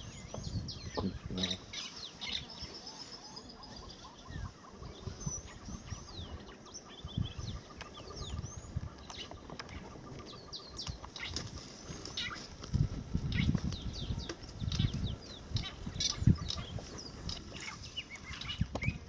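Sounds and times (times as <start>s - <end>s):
birds whistling and chirping: 0.0s - 12.5s, 13.2s - 19.0s.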